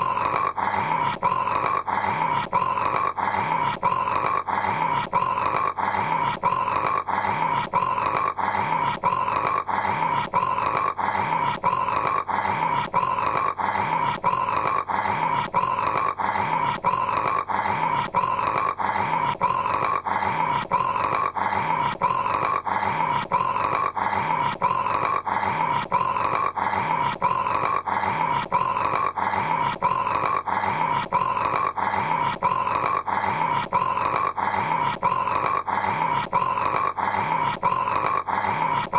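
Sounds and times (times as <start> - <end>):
man snoring: 0.0 - 38.9.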